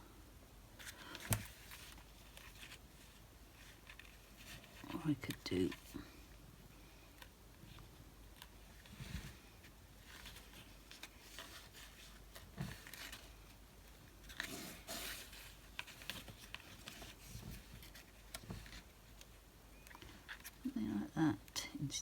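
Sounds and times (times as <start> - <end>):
paper and card rustling: 0.8 - 6.2, 7.0 - 20.7.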